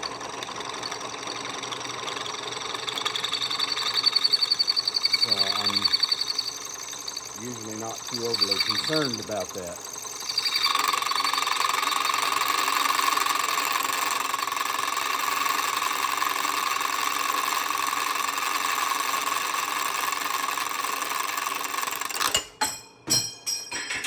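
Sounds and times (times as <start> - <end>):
drill press drilling steel: 0.0 - 22.5.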